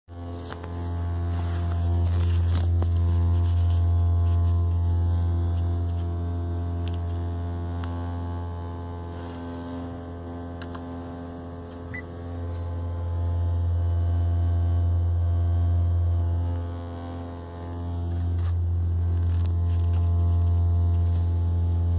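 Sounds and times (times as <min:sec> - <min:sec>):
low steady car hum: 0:00.2 - 0:21.9.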